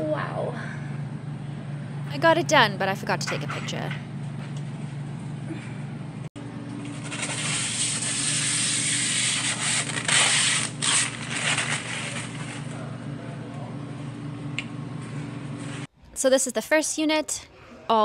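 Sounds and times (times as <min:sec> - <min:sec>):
steady machinery hum: 0:00.0 - 0:18.0.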